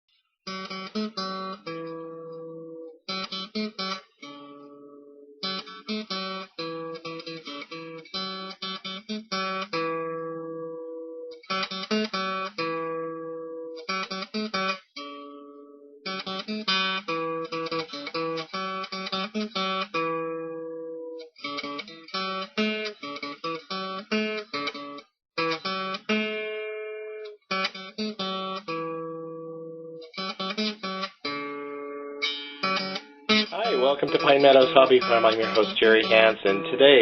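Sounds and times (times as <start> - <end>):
acoustic guitar strummed and plucked: 0.5 - 37.0.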